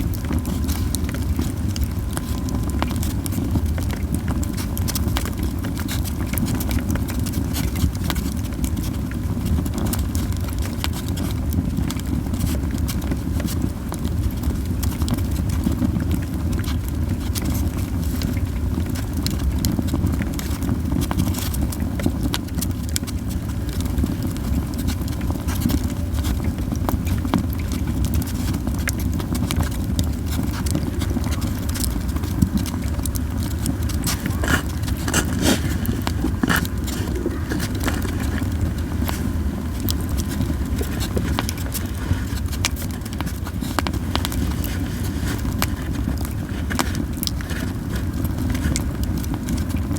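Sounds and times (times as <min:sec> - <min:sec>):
campfire crackling and popping: 0:00.0 - 0:49.9
low rumble of fire: 0:00.0 - 0:49.9.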